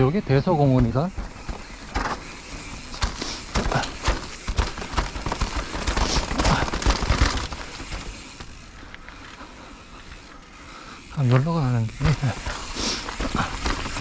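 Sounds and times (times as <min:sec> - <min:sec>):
bike rattling over bumps: 0:00.0 - 0:14.0
tyres crackling over leaves and gravel: 0:00.0 - 0:14.0.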